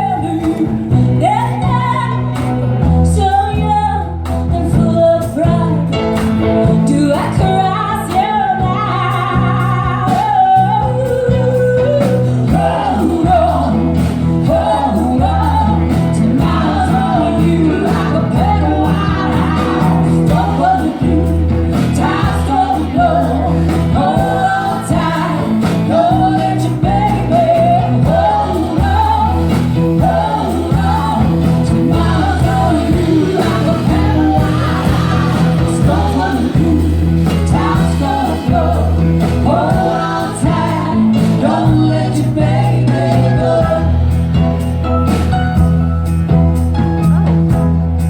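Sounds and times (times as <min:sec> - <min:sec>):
person singing: 0:00.0 - 0:44.5
band playing a song: 0:00.0 - 0:48.0.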